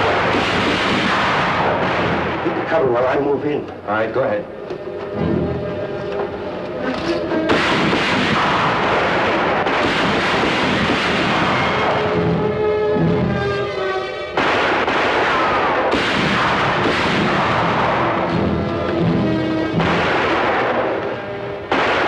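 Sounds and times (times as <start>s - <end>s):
gunshots echoing: 0.0s - 3.4s, 7.3s - 22.0s
dramatic orchestral music: 2.6s - 9.7s, 10.9s - 22.0s.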